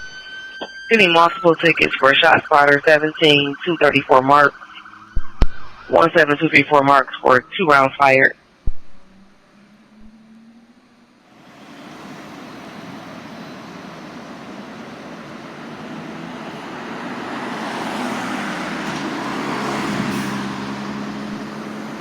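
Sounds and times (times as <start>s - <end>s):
fire engine drone: 0.0s - 22.0s
road noise: 0.0s - 22.0s.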